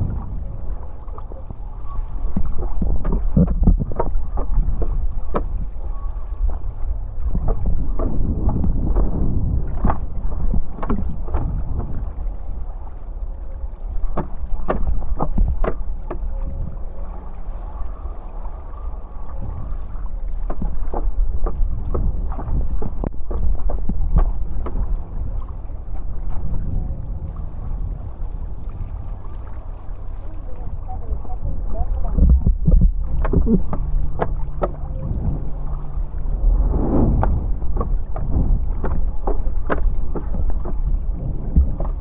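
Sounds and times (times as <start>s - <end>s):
water rushing past board: 0.0s - 42.0s
wind rumbling on microphone: 0.0s - 42.0s.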